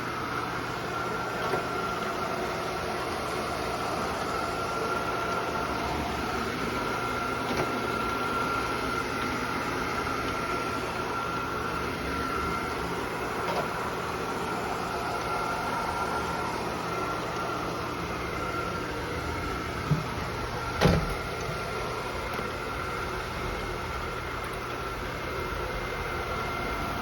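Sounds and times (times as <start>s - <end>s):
robot vacuum cleaner running: 0.0s - 27.0s.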